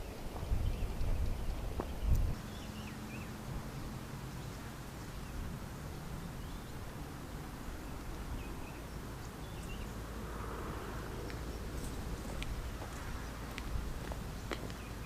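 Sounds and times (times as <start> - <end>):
wind rumbling: 0.0 - 15.0.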